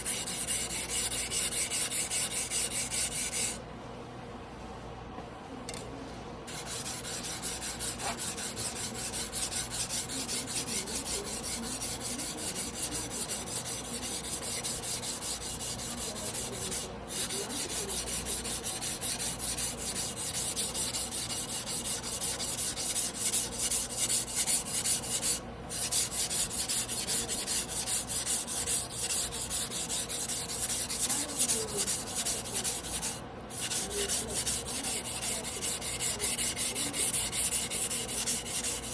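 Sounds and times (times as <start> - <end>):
knife scraping on whetstone: 0.0 - 3.6, 6.5 - 38.9.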